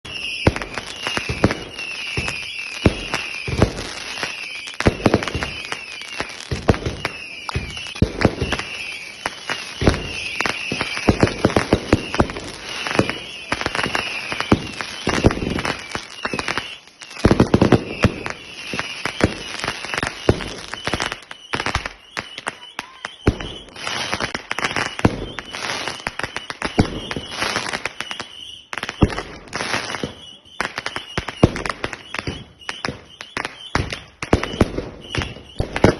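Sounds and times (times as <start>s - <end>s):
fireworks bangs and crackling: 0.0s - 35.9s
fireworks whistling: 0.0s - 35.9s.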